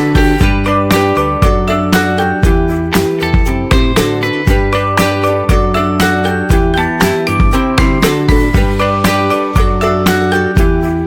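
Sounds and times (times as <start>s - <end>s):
upbeat music with plucked notes: 0.0s - 11.0s.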